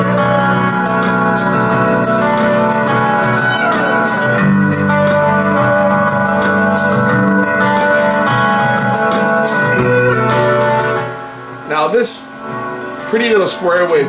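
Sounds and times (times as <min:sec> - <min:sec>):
music with steady beat: 0:00.0 - 0:14.0.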